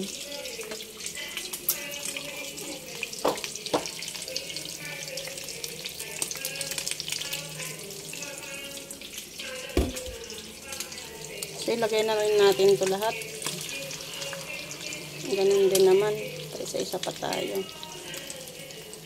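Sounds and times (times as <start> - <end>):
omelette sizzling in frying pan: 0.0 - 19.0.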